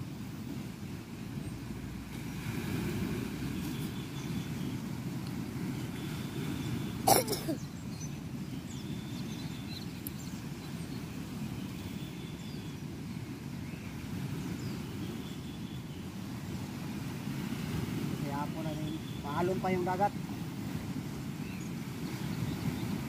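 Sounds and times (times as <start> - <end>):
sea waves: 0.0 - 23.0
wind: 0.0 - 23.0.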